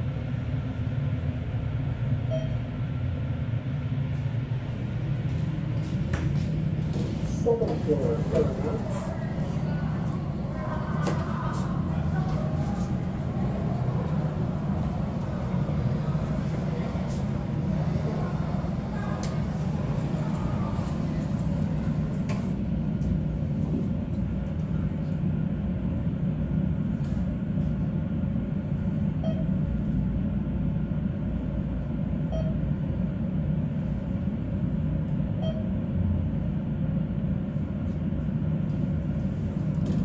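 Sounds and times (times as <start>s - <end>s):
elevator rumble and hum: 0.0s - 40.0s.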